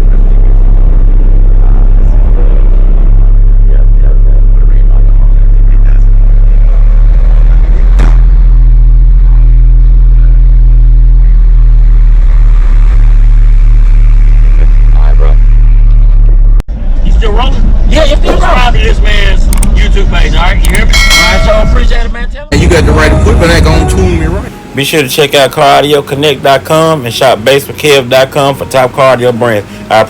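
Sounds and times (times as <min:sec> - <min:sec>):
subwoofers playing deep bass: 0:00.0 - 0:24.6.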